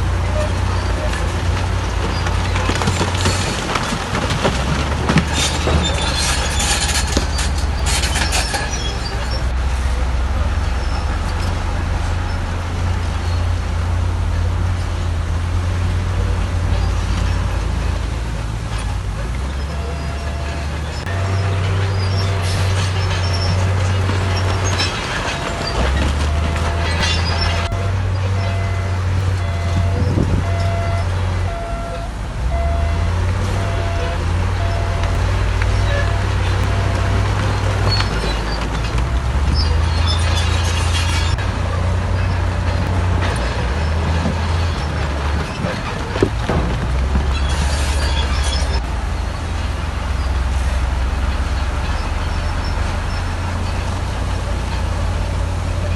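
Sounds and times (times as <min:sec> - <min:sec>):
bulldozer diesel engine: 0:00.0 - 0:55.9
steel tracks squealing and clattering: 0:00.0 - 0:55.9.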